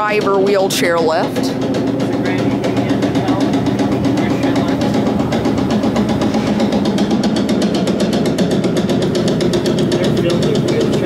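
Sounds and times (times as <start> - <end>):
fast even ticking: 0.0 - 11.0
lift motor hum: 0.0 - 11.0.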